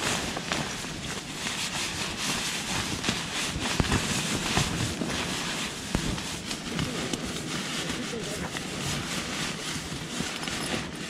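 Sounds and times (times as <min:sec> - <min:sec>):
nylon sleeping bag rustling: 0:00.0 - 0:11.0.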